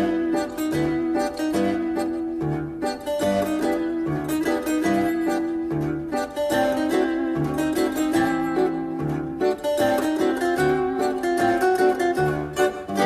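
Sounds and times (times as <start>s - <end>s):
instrumental music with plucked strings: 0.0s - 13.0s.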